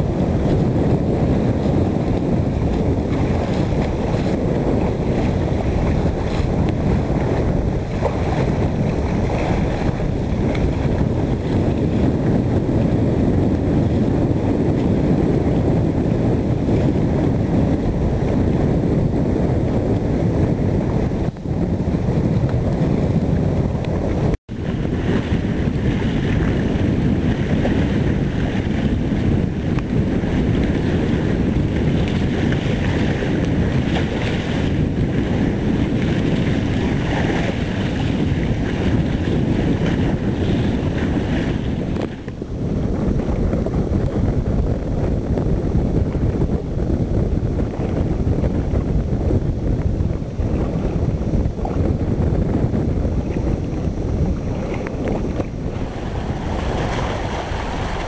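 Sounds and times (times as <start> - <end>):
water rushing past hull: 0.0 - 58.0
wind buffeting microphone: 0.0 - 58.0.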